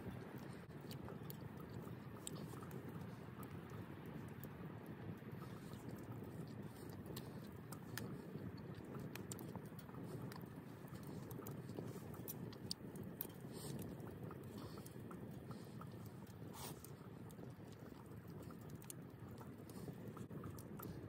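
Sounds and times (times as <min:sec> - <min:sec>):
campfire crackling and popping: 0:00.0 - 0:21.0
low rush of fire: 0:00.0 - 0:21.0.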